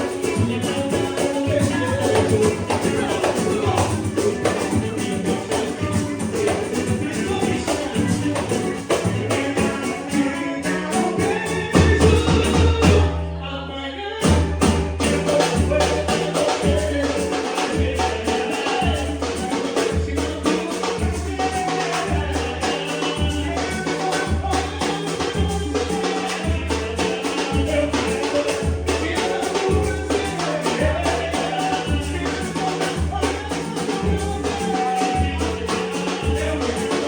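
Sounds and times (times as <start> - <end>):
music with quick percussion: 0.0 - 13.2, 14.2 - 37.0.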